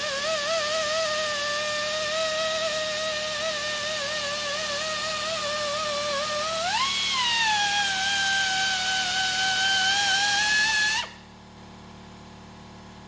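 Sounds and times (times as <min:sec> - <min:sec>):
air hiss: 0:00.0 - 0:11.3
air sander whining and grinding: 0:00.0 - 0:11.3.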